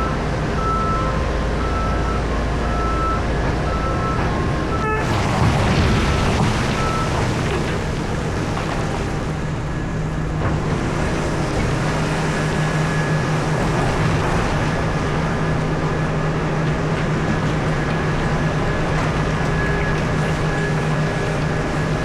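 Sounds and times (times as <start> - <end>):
excavator engine droning: 0.0 - 22.0.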